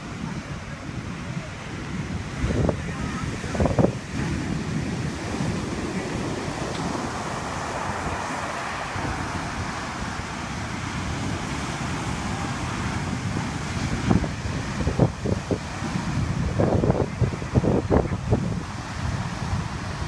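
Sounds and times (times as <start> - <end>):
heavy surf breaking: 0.0 - 20.0
wind buffeting microphone: 0.0 - 20.0.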